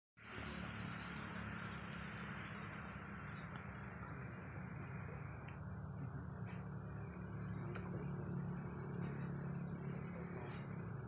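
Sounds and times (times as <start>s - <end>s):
thin high whine: 0.2s - 11.0s.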